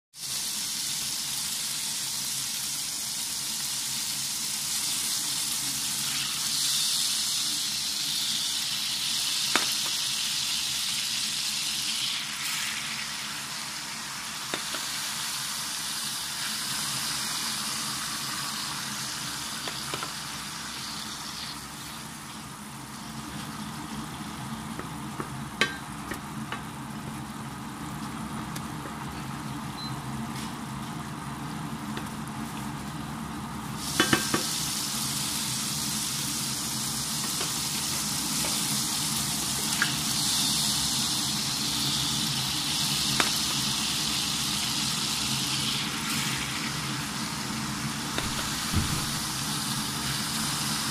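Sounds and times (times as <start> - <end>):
syrup sizzling in a frying pan: 0.1 - 50.9.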